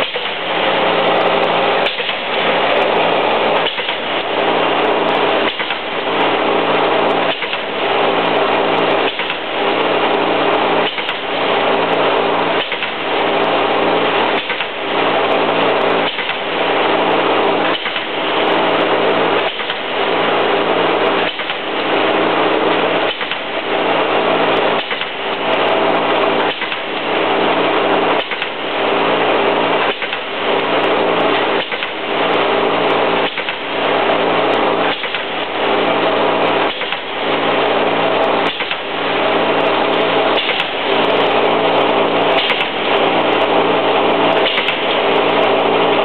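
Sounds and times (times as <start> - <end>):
low motor hum: 0.0 - 46.0
machine knocking: 0.0 - 46.0
machine whirring: 0.0 - 46.0.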